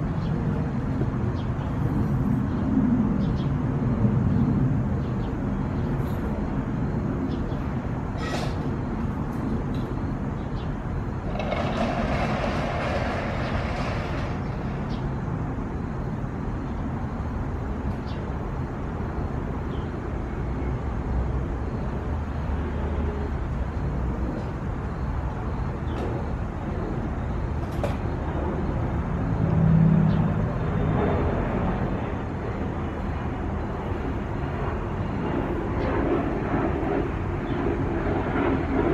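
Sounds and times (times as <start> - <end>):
low outdoor rumble: 0.0 - 38.9.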